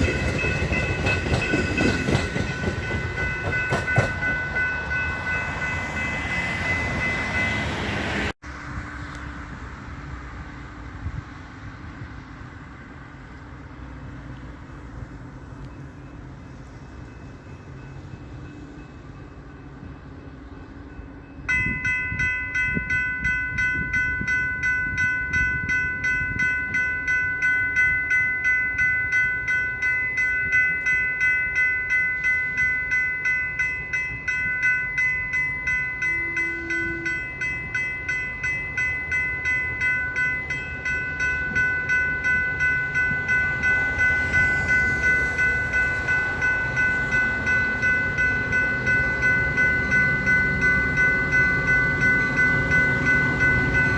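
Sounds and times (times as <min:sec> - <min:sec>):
railroad crossing bell ringing: 0:00.0 - 0:08.4, 0:10.8 - 0:53.9
train rumble: 0:00.0 - 0:53.9.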